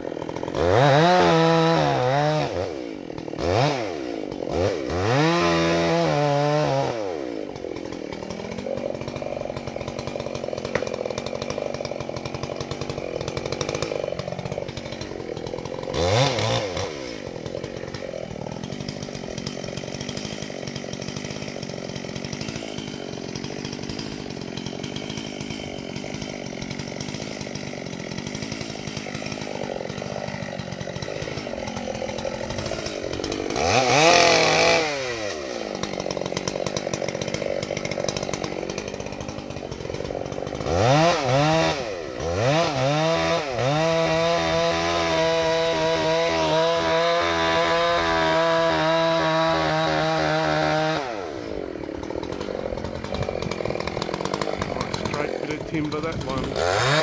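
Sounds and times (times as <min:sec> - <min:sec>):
chainsaw cutting wood: 0:00.0 - 0:57.0
chainsaw idling and revving: 0:00.0 - 0:57.0.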